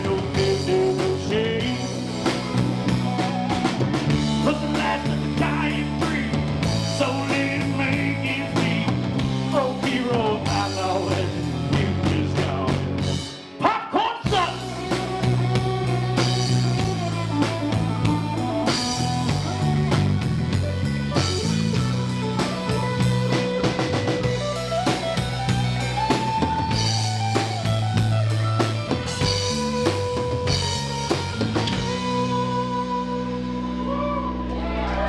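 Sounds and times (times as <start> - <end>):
bass line: 0.0 - 13.4, 14.3 - 35.0
bending lead melody: 0.0 - 13.4, 14.3 - 35.0
drum kit beat: 0.0 - 13.6, 14.3 - 32.6
rock band playing: 0.0 - 35.0.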